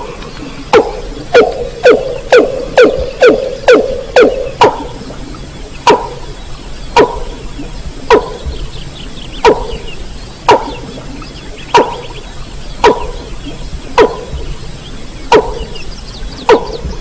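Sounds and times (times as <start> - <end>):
rail bird calls: 0.0 - 17.0.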